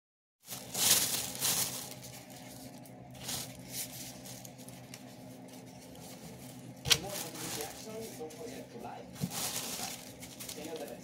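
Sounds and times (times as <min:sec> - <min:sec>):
corn husks rustling: 0:00.4 - 0:11.0
steady low hum: 0:00.4 - 0:11.0.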